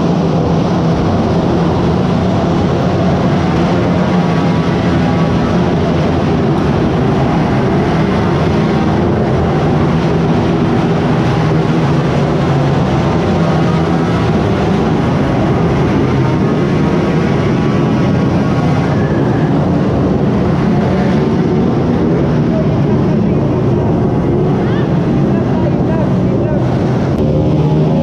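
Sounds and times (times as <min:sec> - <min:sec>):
vehicle running noise: 0:00.0 - 0:28.0.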